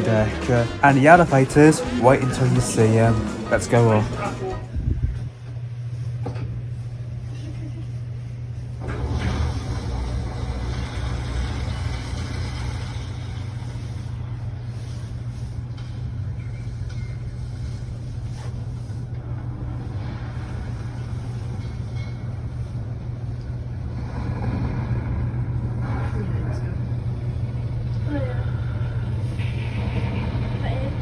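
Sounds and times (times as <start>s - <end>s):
elevator hum and rumble: 0.0s - 31.0s.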